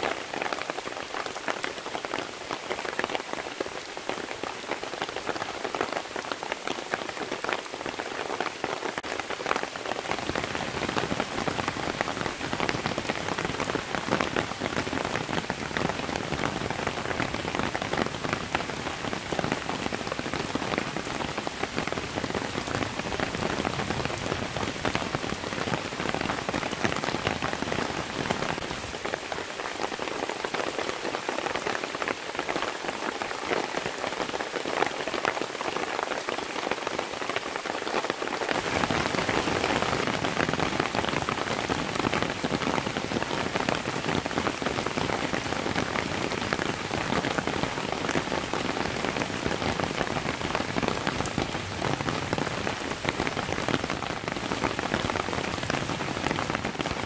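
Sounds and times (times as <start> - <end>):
heavy rain on leaves and grass: 0.0 - 57.0.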